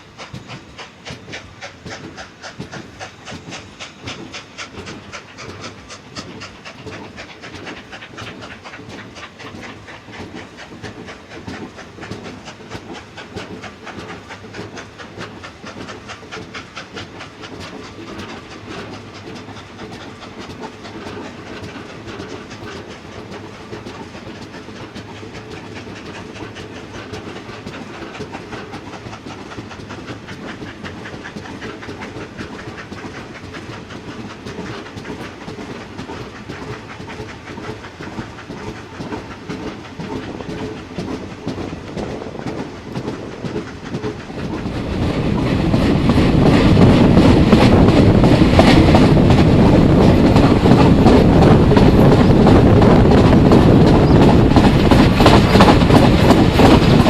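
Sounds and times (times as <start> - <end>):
steam hissing: 0.0 - 57.0
train wheels clattering on rails: 0.0 - 57.0.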